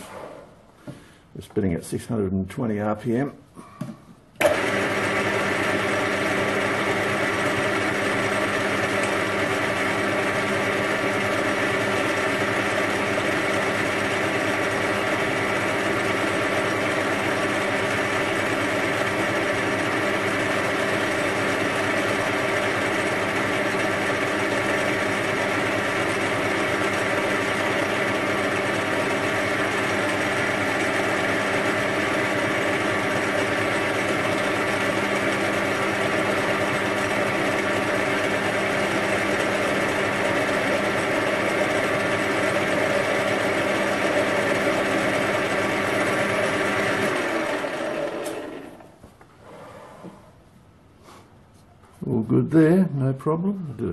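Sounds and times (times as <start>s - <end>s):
metal lathe running: 4.4s - 48.8s.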